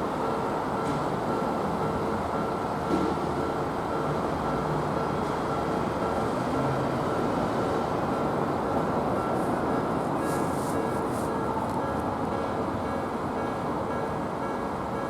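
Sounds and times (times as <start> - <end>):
rail and street traffic noise: 0.0 - 15.0.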